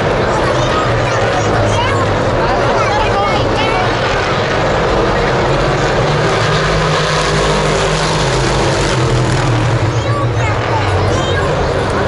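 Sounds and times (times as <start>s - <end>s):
crowd noise: 0.0s - 12.0s
race car engines droning: 0.0s - 12.0s.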